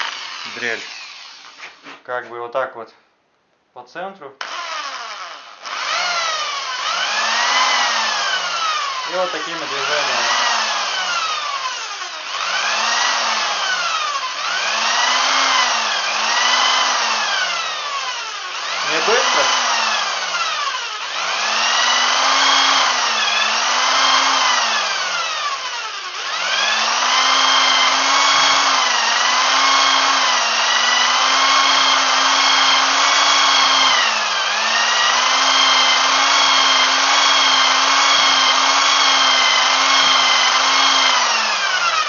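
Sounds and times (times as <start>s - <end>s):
electric drill motor whine: 0.0s - 1.9s, 4.4s - 42.0s.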